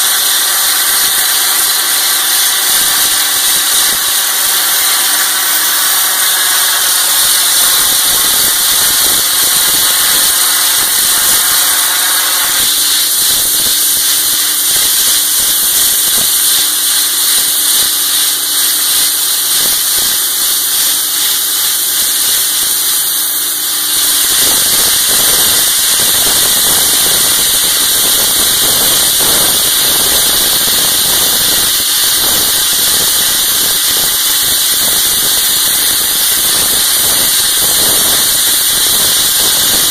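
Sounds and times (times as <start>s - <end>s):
blast stream hissing: 0.0s - 39.9s.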